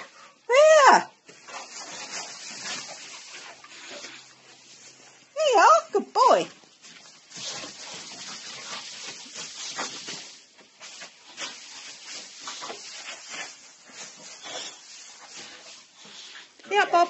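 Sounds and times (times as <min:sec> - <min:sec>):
wood shavings rustling: 0:01.2 - 0:17.0.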